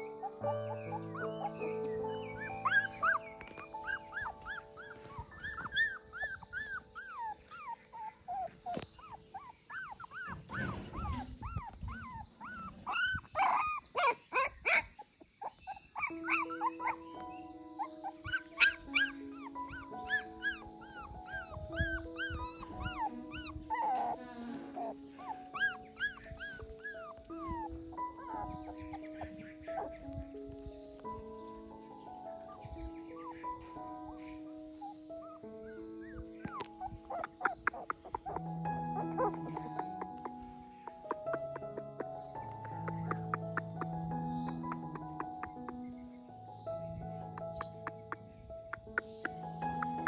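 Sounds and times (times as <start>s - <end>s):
background music of held notes: 0.0s - 15.0s, 15.6s - 50.0s
puppies whimpering and squealing: 0.0s - 46.2s, 47.2s - 50.0s.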